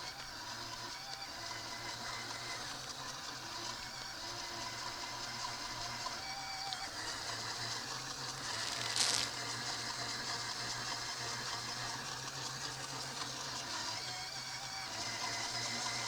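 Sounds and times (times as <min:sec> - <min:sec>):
small electric motor humming: 0:00.0 - 0:16.0.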